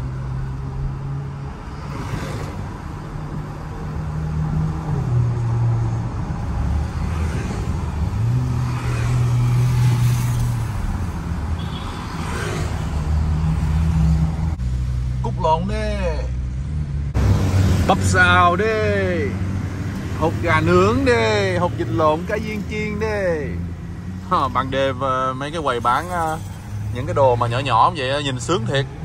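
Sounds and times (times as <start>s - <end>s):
car engine and road hum: 0.0s - 29.0s
vehicles passing: 0.0s - 29.0s.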